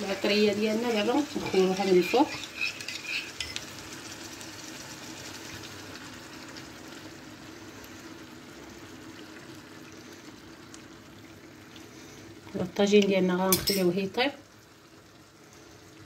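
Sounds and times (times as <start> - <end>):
sauce sizzling in hot pot: 0.0 - 16.0.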